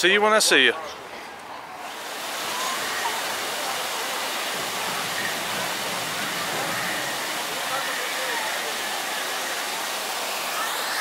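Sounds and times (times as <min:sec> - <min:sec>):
waterfalls splashing: 0:01.8 - 0:11.0.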